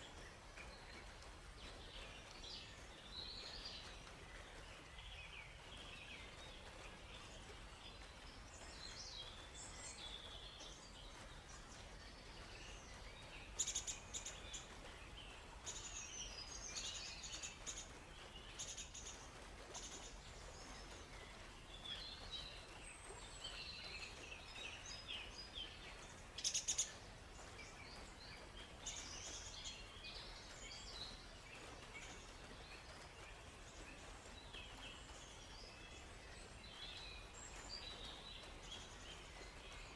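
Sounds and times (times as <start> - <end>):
faint steady hiss: 0.0 - 39.9
small birds chirping and trilling: 0.0 - 39.9.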